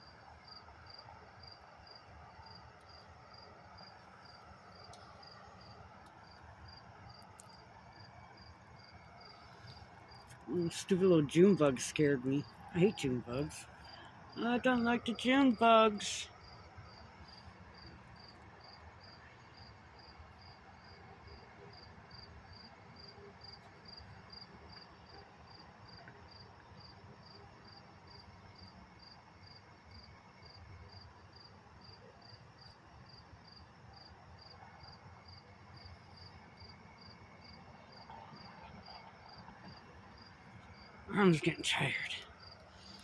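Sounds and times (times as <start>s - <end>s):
cricket chirping: 0.0s - 43.0s
low background hiss: 0.0s - 43.0s.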